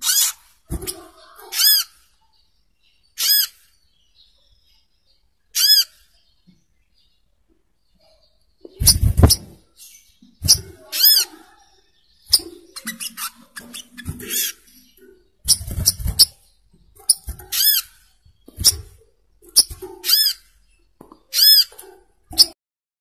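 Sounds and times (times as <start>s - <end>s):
bird chirping calls: 0.0s - 22.6s.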